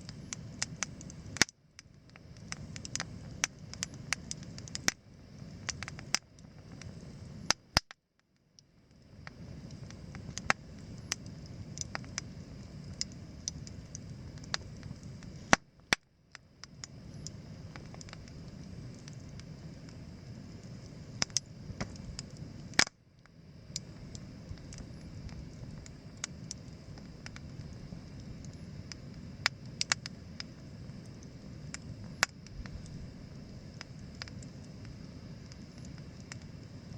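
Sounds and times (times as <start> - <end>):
campfire crackling: 0.0 - 7.9, 8.5 - 36.9.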